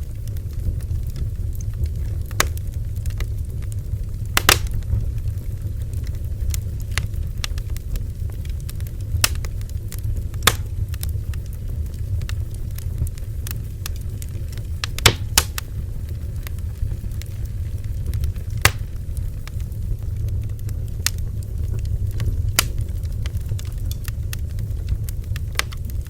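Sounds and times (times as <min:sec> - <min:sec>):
fire flame rumble: 0:00.0 - 0:26.0
wood crackling and popping: 0:00.0 - 0:26.0.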